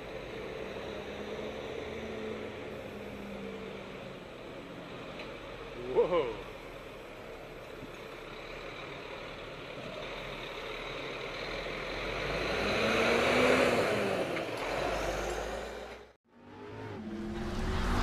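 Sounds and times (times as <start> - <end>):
heavy truck driving by: 0.0 - 18.0.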